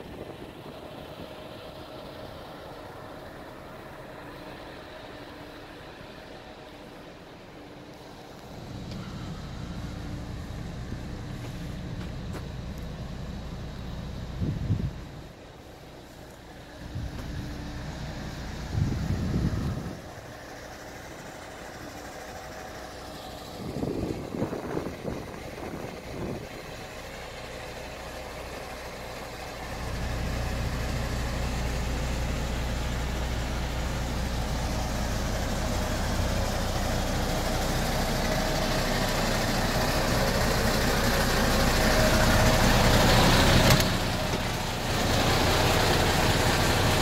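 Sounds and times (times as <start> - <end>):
diesel engine humming: 0.0 - 47.0.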